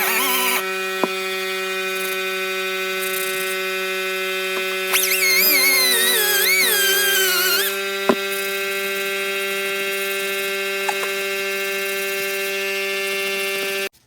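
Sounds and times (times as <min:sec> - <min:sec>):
steady buzzing drone: 0:00.0 - 0:13.9.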